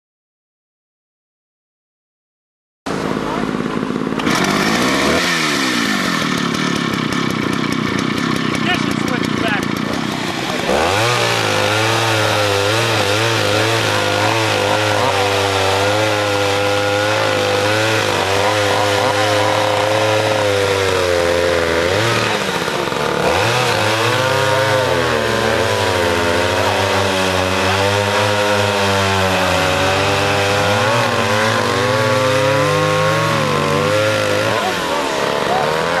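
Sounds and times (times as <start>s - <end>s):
chainsaw revving: 2.9s - 36.0s.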